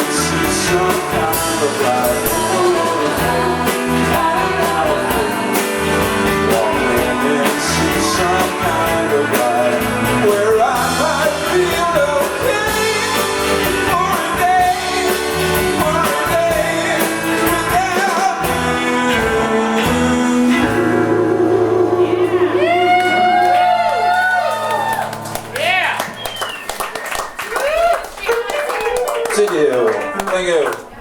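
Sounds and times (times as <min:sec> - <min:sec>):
live rock band playing: 0:00.0 - 0:27.5, 0:28.4 - 0:31.0.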